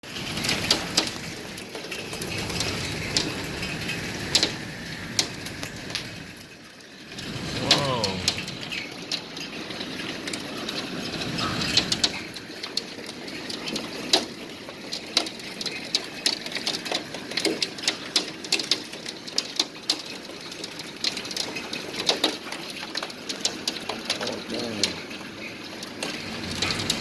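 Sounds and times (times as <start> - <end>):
hailstones striking: 0.1 - 6.2, 6.8 - 27.0.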